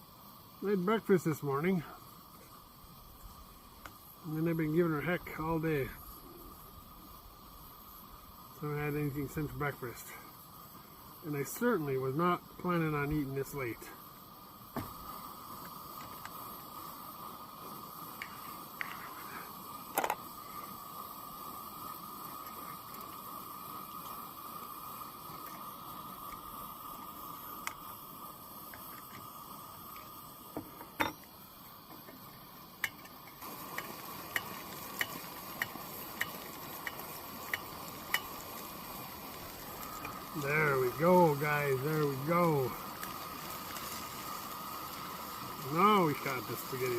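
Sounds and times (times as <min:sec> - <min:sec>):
food frying in a pan: 0:00.0 - 0:46.9
stove burner hissing: 0:00.0 - 0:46.9.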